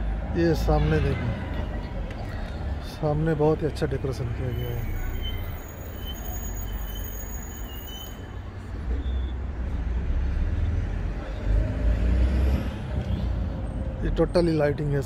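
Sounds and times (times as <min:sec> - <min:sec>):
rumble of road traffic: 0:00.0 - 0:15.0.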